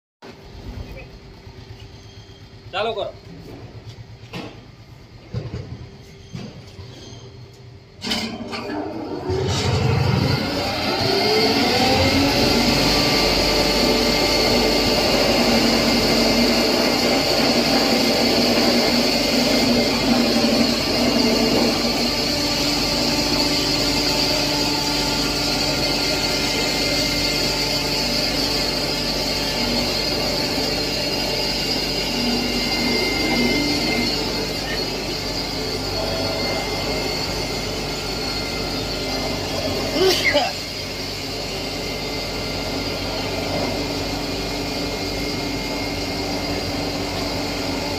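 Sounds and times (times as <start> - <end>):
pulverizer machine grinding: 7.9 - 47.9.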